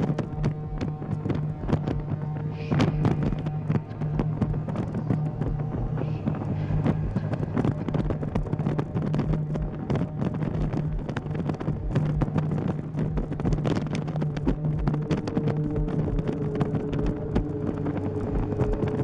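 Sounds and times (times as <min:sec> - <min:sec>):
motorcycle engine running: 0:00.0 - 0:19.0
sharp clicks and crackles: 0:00.0 - 0:19.0
wind buffeting microphone: 0:00.0 - 0:19.0.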